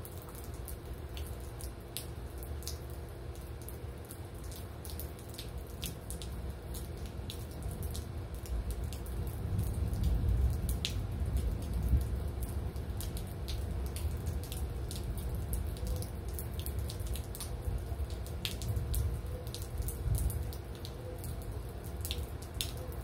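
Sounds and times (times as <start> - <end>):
rain dripping: 0.0 - 23.0.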